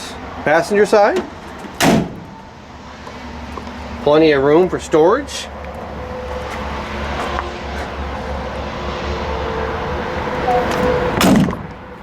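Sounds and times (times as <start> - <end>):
distant engine rumble: 0.0 - 12.0.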